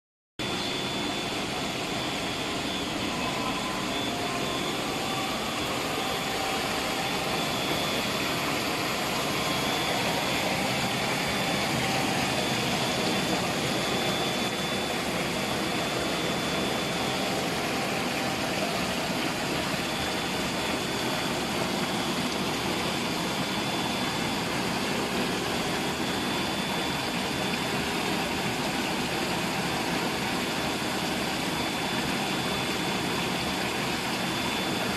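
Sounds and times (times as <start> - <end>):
faint high whine: 0.4 - 34.9
machine hum: 0.4 - 34.9.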